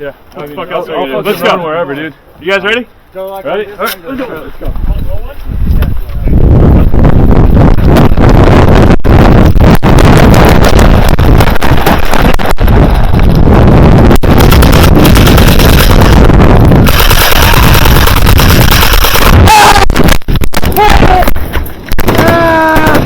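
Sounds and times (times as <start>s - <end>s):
wind on microphone: 4.5s - 23.0s.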